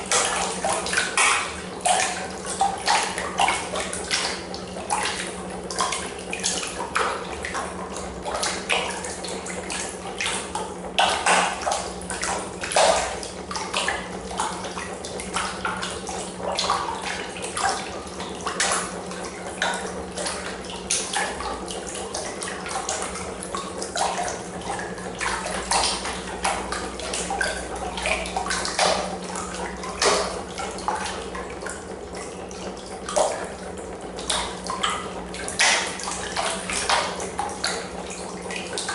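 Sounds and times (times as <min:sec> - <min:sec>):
water splashing in a tub: 0:00.0 - 0:38.9.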